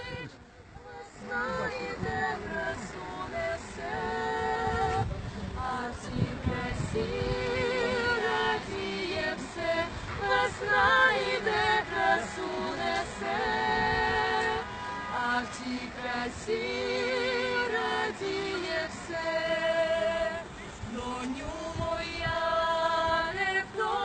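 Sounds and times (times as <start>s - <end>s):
women singing a lullaby: 0.0s - 24.0s.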